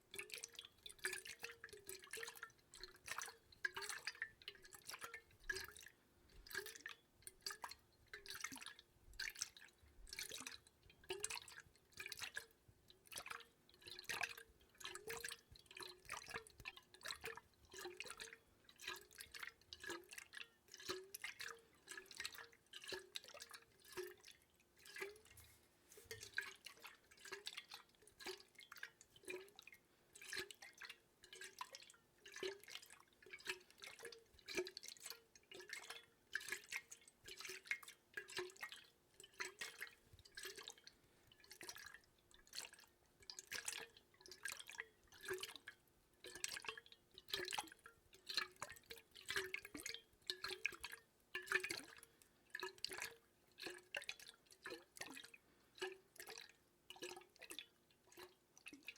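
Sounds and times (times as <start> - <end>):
water dripping into water: 0.0 - 58.9.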